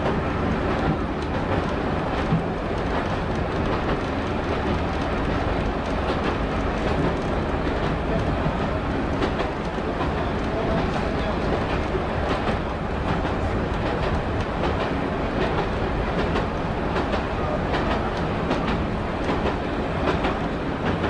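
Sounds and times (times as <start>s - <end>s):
train engine and wheel rumble: 0.0s - 21.0s.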